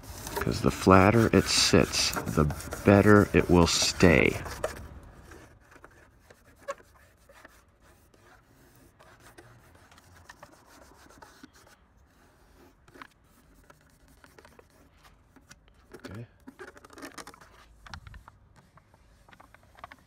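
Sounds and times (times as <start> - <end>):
fingers rubbing tape on metal: 0.0 - 20.0.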